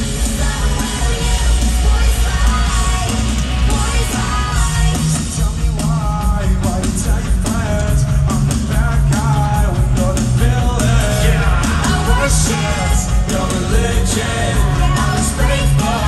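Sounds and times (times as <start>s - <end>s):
electric guitar: 0.0s - 16.0s
live rock band playing: 0.0s - 16.0s.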